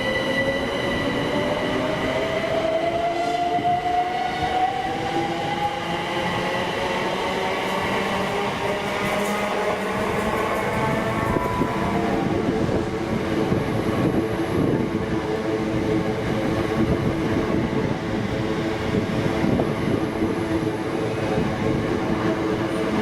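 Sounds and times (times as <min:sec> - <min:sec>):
train drone of held tones: 0:00.0 - 0:23.0
train rumble: 0:00.0 - 0:23.0.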